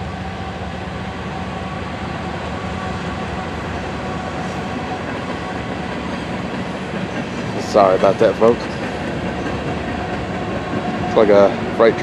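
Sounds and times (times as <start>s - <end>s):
freight train running past: 0.0s - 12.0s
train engine drone: 0.0s - 12.0s.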